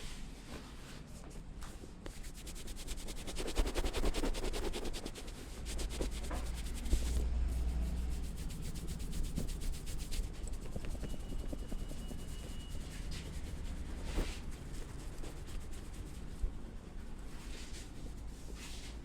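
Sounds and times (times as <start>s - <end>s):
hands rubbing over skin: 2.1s - 19.0s.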